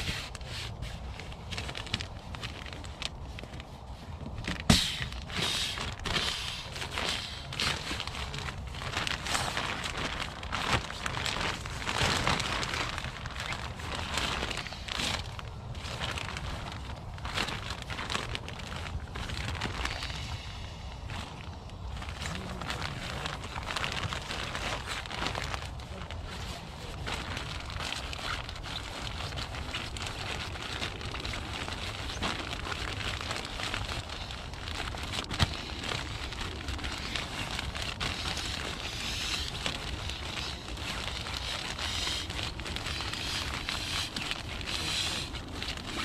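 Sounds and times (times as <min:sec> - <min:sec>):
air mat fabric rustling: 0:00.0 - 0:46.0.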